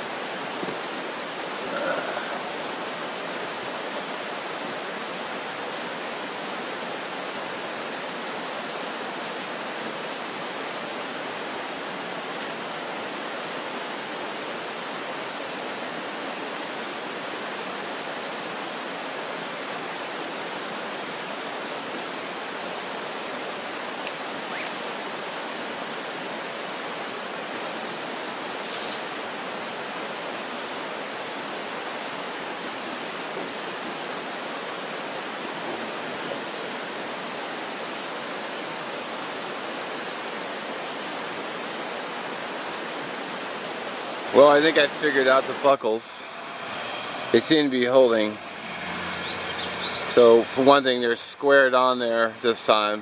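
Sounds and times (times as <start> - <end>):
rushing running water: 0.0 - 53.0.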